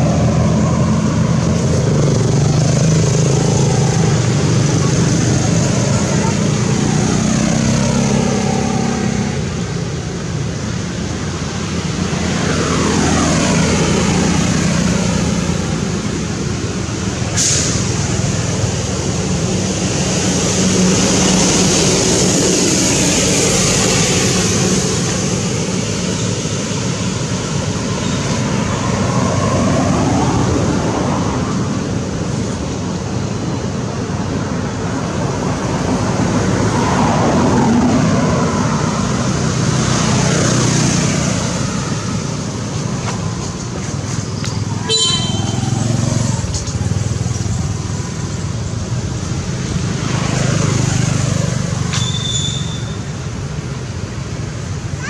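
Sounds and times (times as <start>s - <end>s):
passing vehicles: 0.0s - 55.0s.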